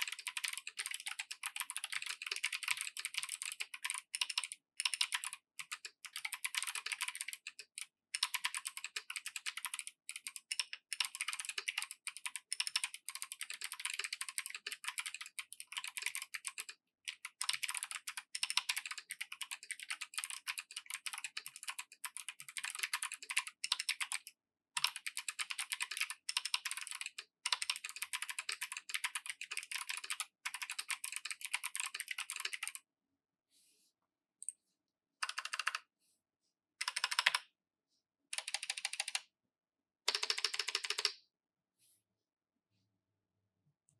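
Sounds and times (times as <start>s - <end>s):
mechanical keyboard typing: 0.0s - 32.8s, 35.2s - 35.8s, 36.8s - 37.4s, 38.4s - 39.2s, 40.1s - 41.1s.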